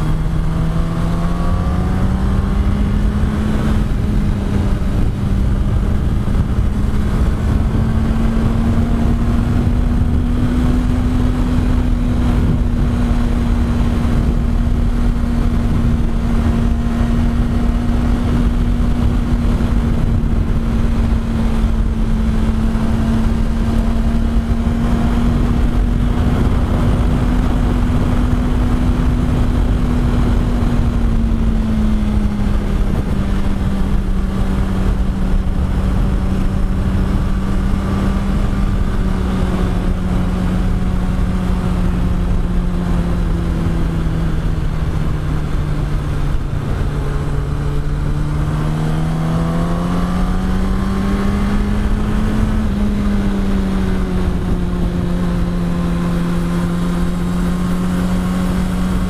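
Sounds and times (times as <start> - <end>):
motorcycle engine revving: 0.0 - 59.0
wind rush over microphone: 0.0 - 59.0.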